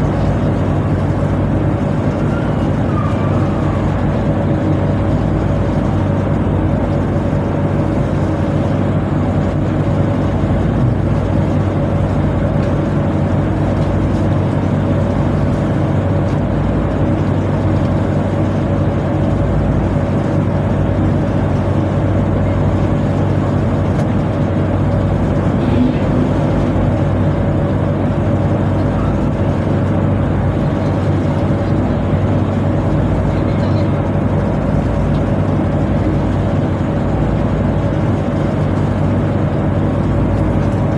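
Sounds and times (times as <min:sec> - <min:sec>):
diesel machinery drone: 0:00.0 - 0:40.9.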